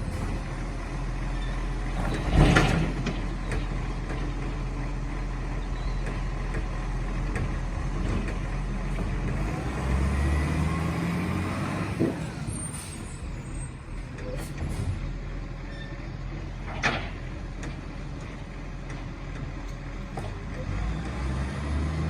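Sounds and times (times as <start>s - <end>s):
garbage truck engine: 0.0s - 22.0s.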